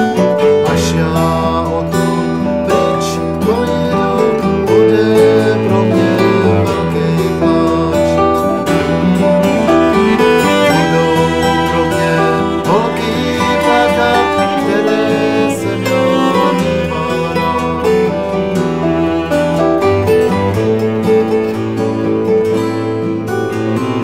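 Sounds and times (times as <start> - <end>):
acoustic guitar country tune: 0.0 - 24.0.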